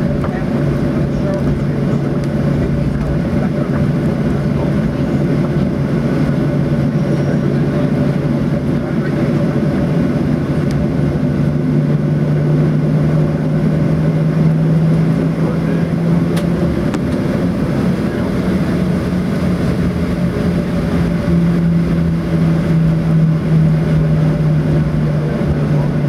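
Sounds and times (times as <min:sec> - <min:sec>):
jet engines droning in cabin: 0:00.0 - 0:26.0.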